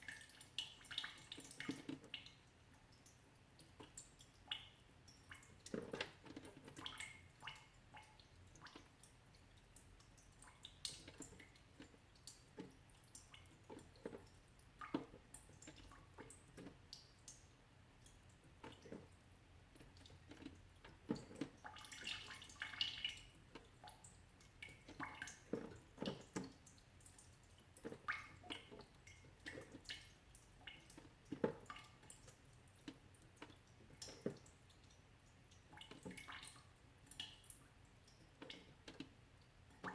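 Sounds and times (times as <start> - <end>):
water dripping from melting ice: 0.0 - 39.9.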